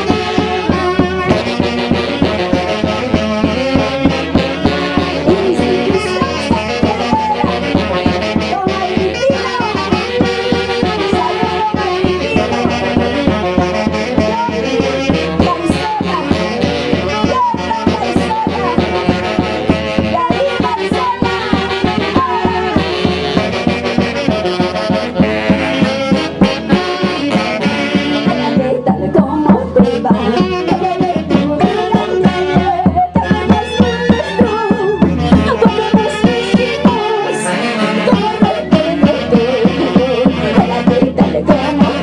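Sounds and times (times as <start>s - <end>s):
live band playing fast music: 0.0s - 42.0s.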